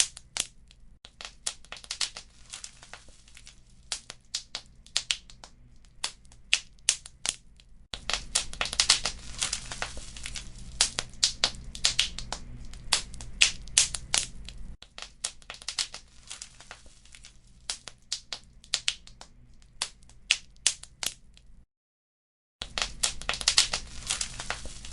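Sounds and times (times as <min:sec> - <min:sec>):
wood fire crackling: 0:00.0 - 0:21.2, 0:22.6 - 0:24.9.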